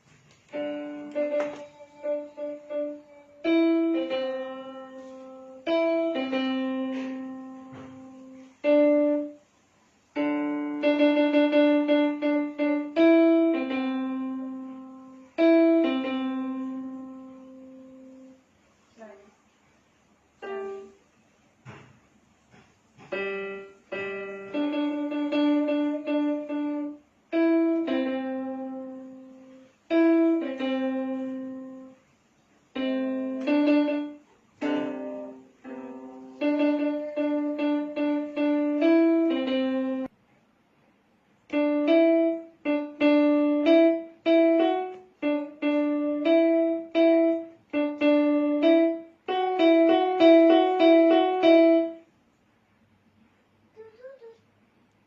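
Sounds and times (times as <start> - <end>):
piano melody: 0.0 - 18.5, 20.4 - 21.1, 23.0 - 40.1, 41.5 - 52.1.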